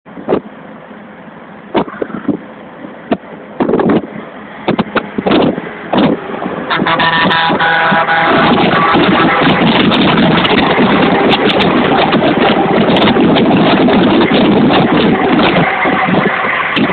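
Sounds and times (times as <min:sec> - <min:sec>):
overtaking truck engine and tyres: 0:00.0 - 0:16.9
wind noise on microphone: 0:00.1 - 0:00.6, 0:01.7 - 0:16.9
truck driving at speed: 0:00.1 - 0:16.9.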